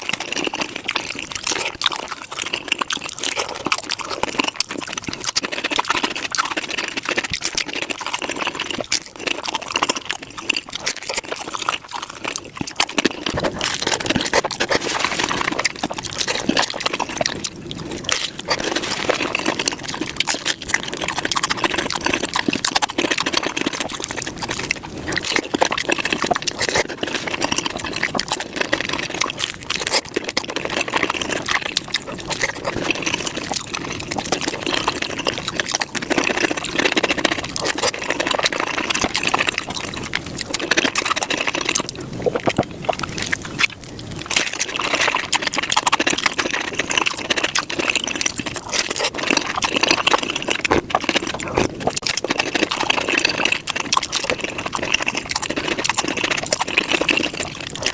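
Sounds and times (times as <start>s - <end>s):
sped-up chewing and crunching: 0.0s - 57.9s.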